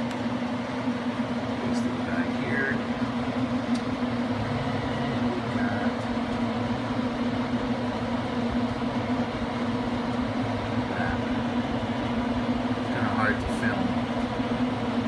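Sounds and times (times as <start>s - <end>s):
wood stove humming and rushing: 0.0s - 15.0s.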